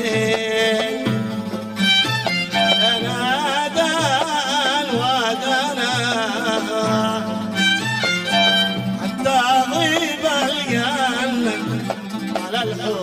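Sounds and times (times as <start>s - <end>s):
folk music with string melody: 0.0s - 13.0s.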